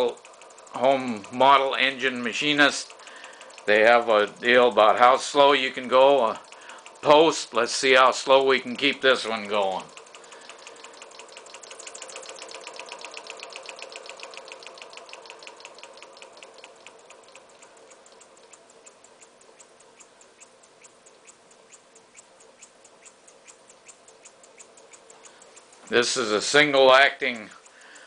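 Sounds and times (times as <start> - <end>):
model air engine ticking: 0.0 - 28.0.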